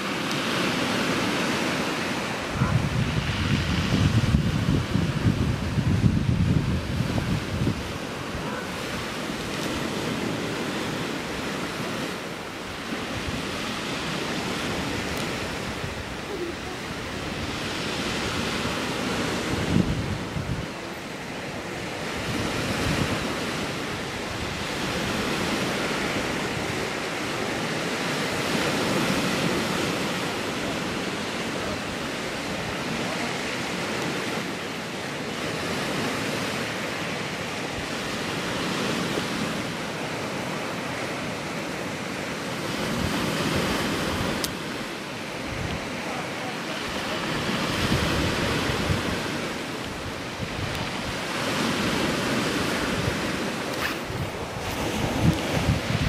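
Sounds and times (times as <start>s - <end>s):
surf breaking on shingle beach: 0.0s - 56.0s
wind on microphone: 0.0s - 56.0s.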